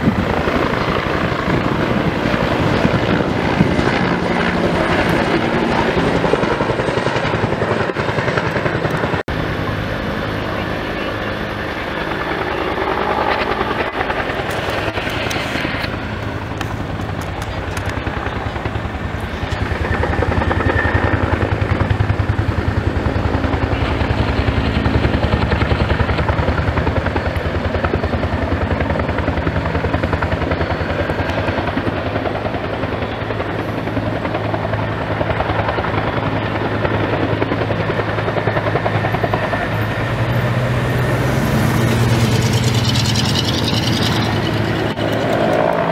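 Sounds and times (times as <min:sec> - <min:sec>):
helicopter engine noise: 0:00.0 - 0:45.9
helicopter rotor beat: 0:00.0 - 0:45.9.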